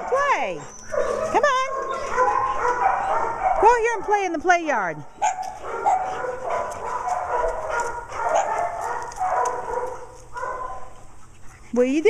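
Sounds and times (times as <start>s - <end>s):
many dogs barking: 0.0s - 4.5s, 5.2s - 11.1s.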